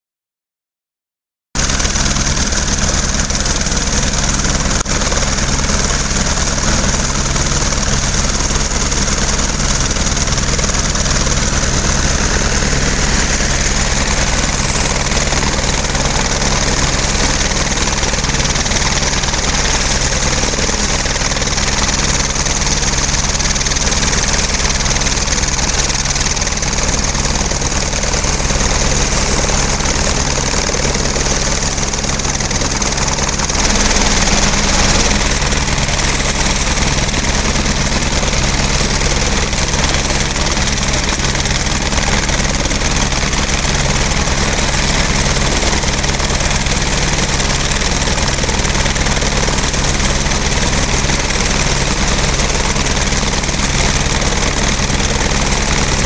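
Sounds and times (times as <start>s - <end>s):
helicopter rotor blades beating: 1.6s - 56.0s
helicopter turbine whine: 1.6s - 56.0s.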